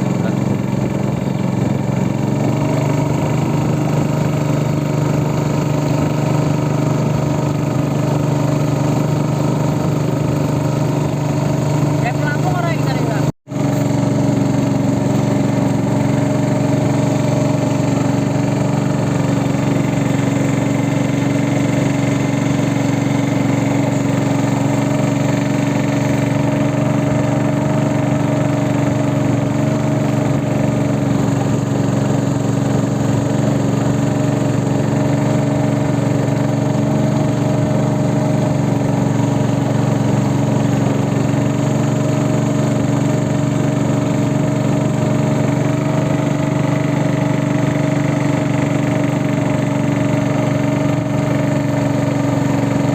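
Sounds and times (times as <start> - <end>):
boat engine droning: 0.0 - 52.9.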